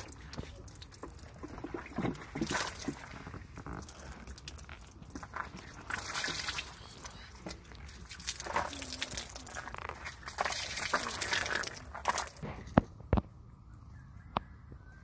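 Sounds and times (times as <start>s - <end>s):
water splashing onto wet mud: 0.0s - 12.5s
water trickling: 0.0s - 12.5s.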